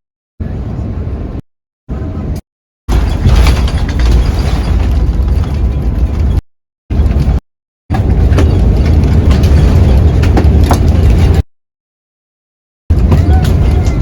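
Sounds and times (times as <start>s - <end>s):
airplane cabin rumble: 0.4s - 11.5s, 12.9s - 14.0s.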